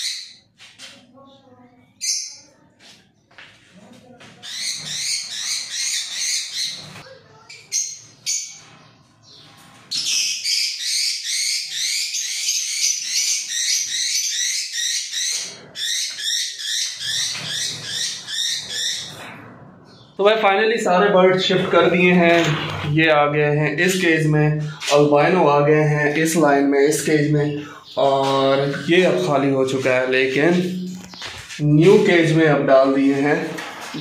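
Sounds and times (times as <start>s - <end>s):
lovebirds chirping: 0.0s - 34.0s.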